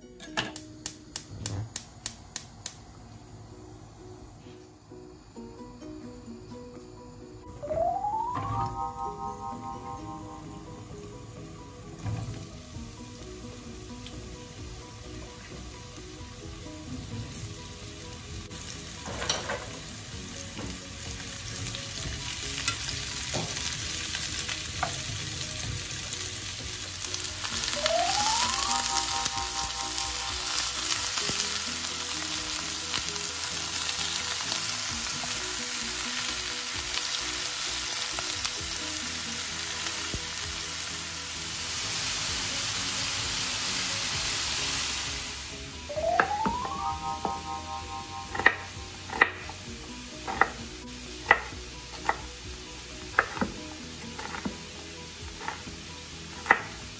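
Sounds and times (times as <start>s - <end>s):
vegetables sizzling in oil: 7.7s - 56.9s.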